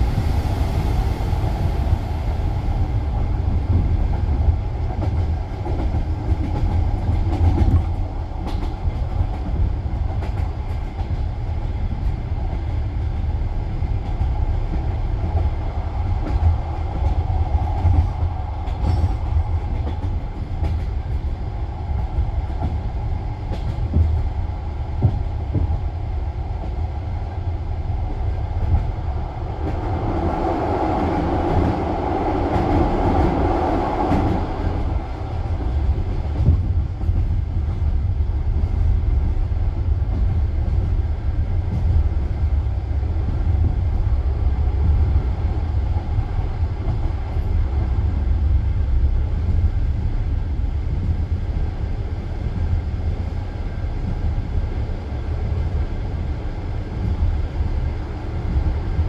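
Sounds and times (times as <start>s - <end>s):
train carriage rumbling on rails: 0.0s - 59.0s.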